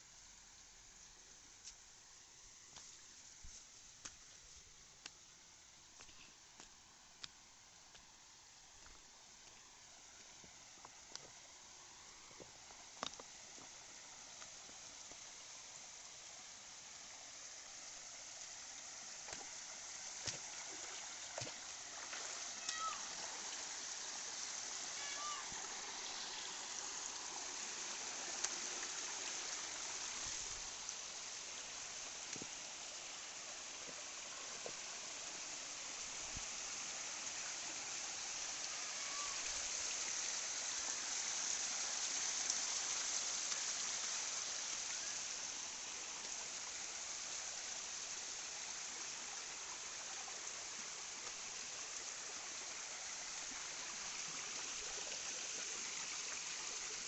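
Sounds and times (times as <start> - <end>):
waterfall hissing: 0.8 - 57.0.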